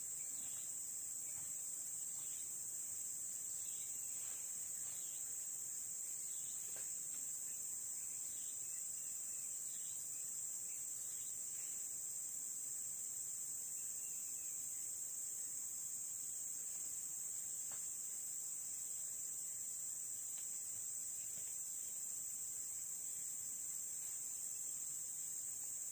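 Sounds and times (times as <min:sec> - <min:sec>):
high-pitched insect chorus: 0:00.0 - 0:25.9.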